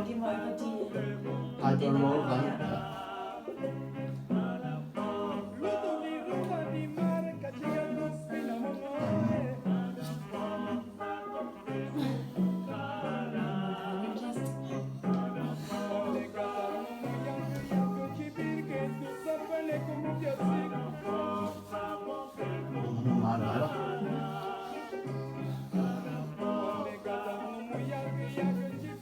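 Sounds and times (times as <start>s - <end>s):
person singing: 0.0s - 29.0s.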